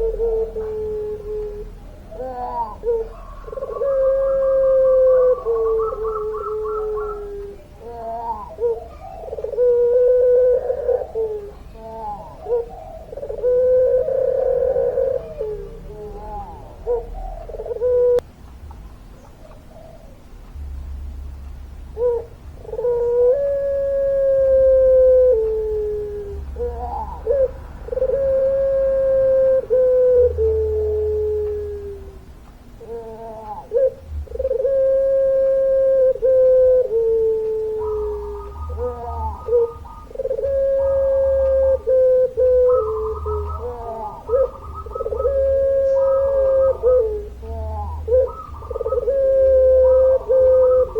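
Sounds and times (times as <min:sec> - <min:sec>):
dove cooing: 0:00.0 - 0:18.3, 0:19.2 - 0:20.4, 0:21.9 - 0:50.9.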